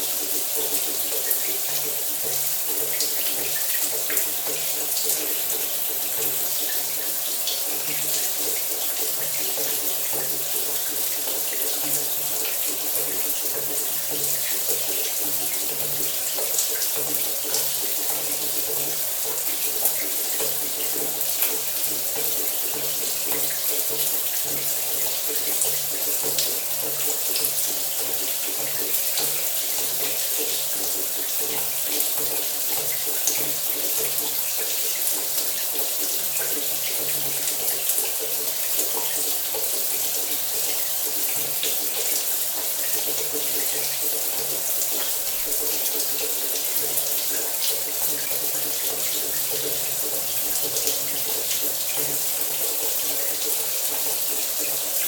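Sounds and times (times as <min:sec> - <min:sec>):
shower running: 0:00.0 - 0:55.0.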